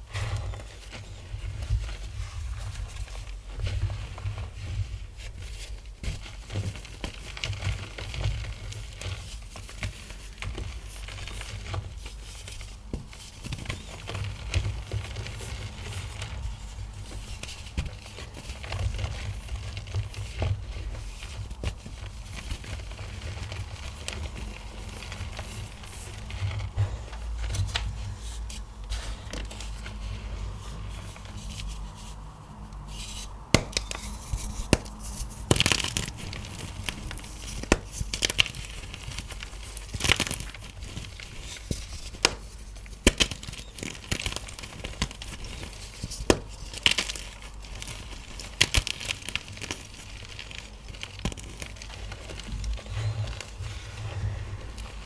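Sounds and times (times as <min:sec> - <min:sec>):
chalk crumbling and cracking: 0:00.1 - 0:55.0.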